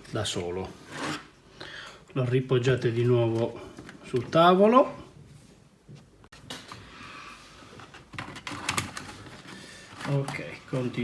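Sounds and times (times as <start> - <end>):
faint handling noises: 2.1 - 11.0.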